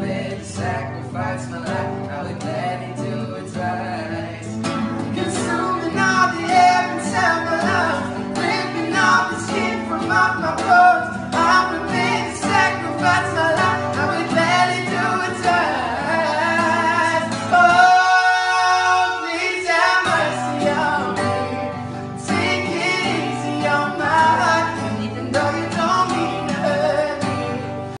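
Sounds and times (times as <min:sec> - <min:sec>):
acoustic guitar strumming: 0:00.0 - 0:28.0
man singing in high voice: 0:00.0 - 0:28.0.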